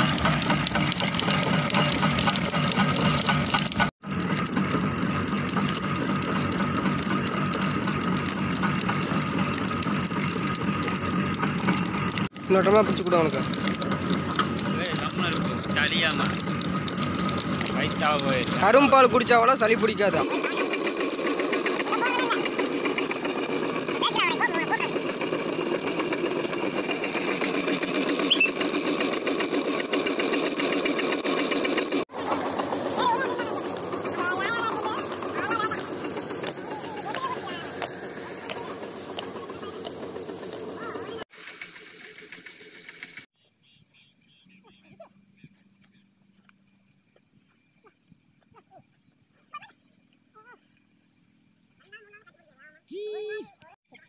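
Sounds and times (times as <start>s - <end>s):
engine-driven crushing mill running: 0.0s - 43.3s.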